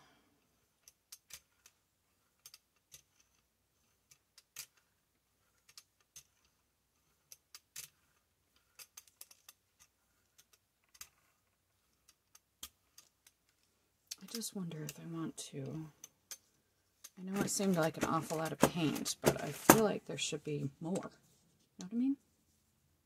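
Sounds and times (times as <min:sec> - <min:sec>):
brayer rolling through paint: 0:00.4 - 0:20.0.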